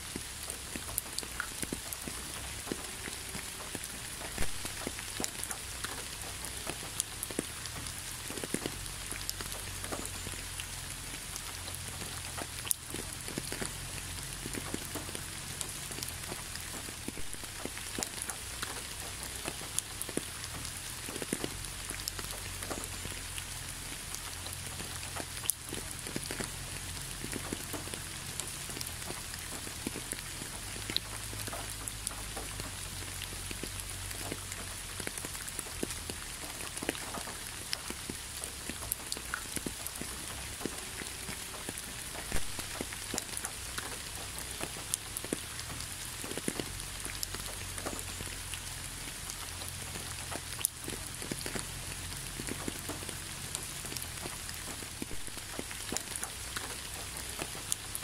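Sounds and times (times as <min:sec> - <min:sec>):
raindrops ticking on a surface: 0:00.0 - 0:58.0
steady rain hiss: 0:00.0 - 0:58.0.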